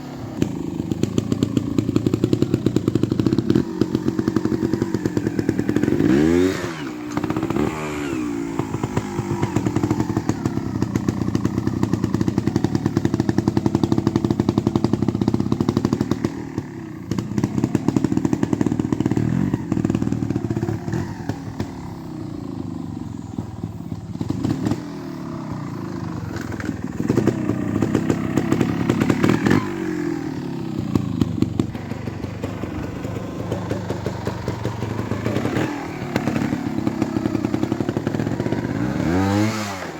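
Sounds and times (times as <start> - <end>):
motorcycle engine blipping: 0.0 - 39.7.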